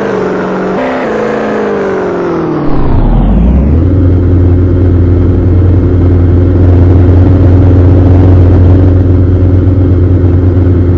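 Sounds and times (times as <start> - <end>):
car engine droning: 0.0 - 10.9.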